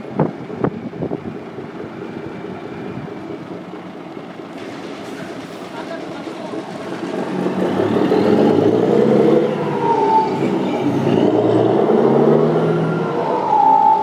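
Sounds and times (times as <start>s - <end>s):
diesel truck engine revving: 0.0s - 14.0s.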